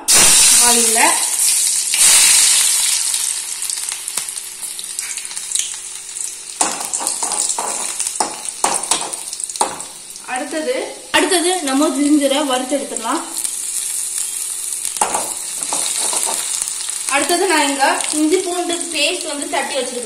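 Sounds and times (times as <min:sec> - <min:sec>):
garlic sizzling in oil: 0:00.0 - 0:20.0.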